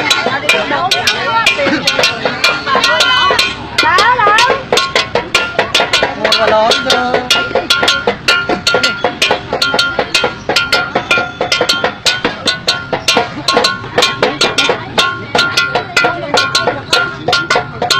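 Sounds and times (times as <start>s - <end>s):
music with fast percussion beat: 0.0s - 17.9s.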